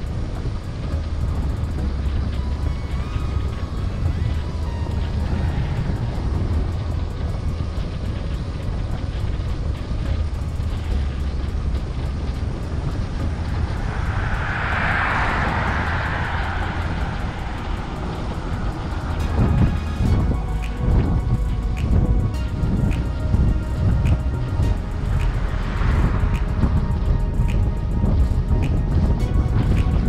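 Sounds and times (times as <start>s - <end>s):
passing hiss: 0.0s - 30.0s
wind buffeting microphone: 0.0s - 30.0s.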